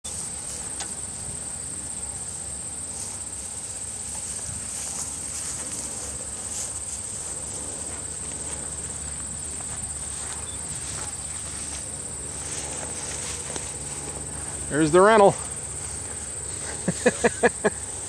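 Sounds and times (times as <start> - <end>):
crickets trilling: 0.1 - 18.0.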